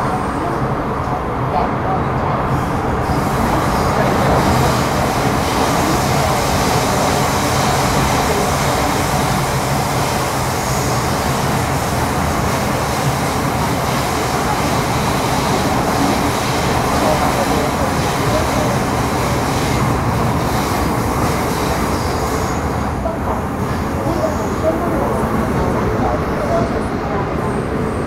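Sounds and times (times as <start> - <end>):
train wheels rumbling and hissing: 0.0 - 28.0.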